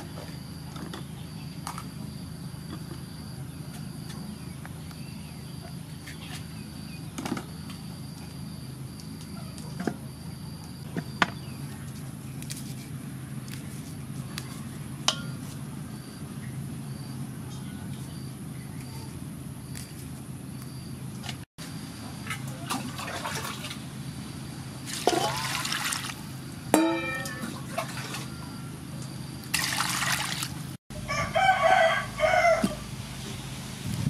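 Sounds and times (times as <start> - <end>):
low background hum: 0.0 - 33.4.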